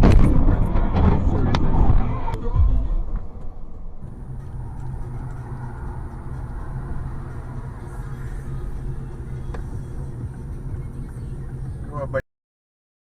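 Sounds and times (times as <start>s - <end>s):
car engine and road noise: 0.0s - 12.2s.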